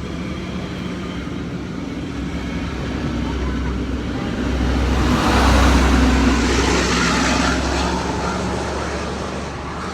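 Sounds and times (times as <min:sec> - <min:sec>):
diesel engine drone: 0:00.0 - 0:09.9
train wheel and rail noise: 0:00.0 - 0:09.9.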